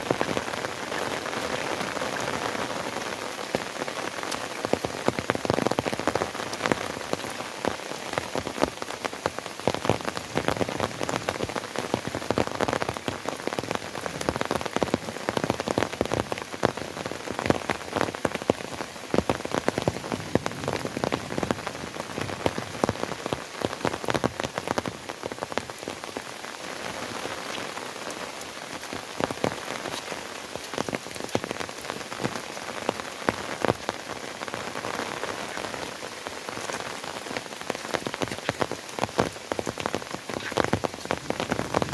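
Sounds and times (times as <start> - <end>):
rain drops striking close by: 0.0 - 41.9
steady rain hiss: 0.0 - 41.9.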